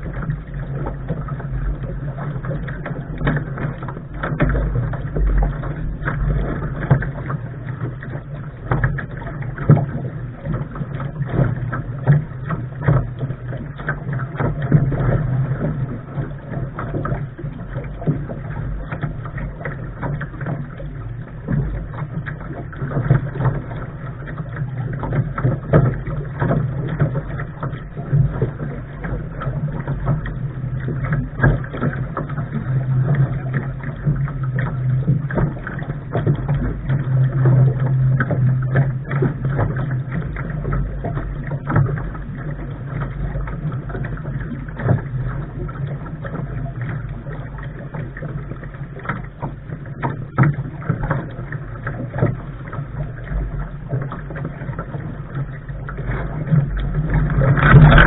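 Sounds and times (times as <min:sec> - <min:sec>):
short splashes and knocks: 0:00.0 - 0:58.0
water rushing and slapping: 0:00.0 - 0:58.0
wind rumbling on microphone: 0:00.0 - 0:58.0.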